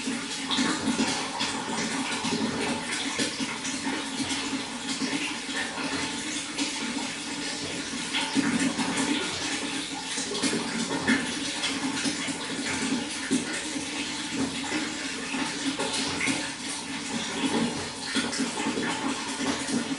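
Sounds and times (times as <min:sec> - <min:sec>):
running water splashing: 0:00.0 - 0:19.9.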